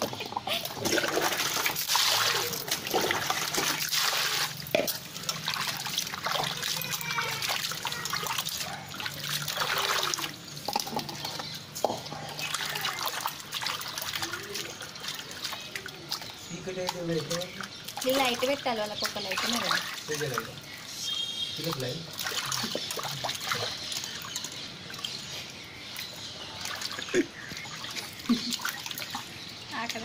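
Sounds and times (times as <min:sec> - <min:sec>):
water splashing in a steel bowl: 0:00.0 - 0:30.0.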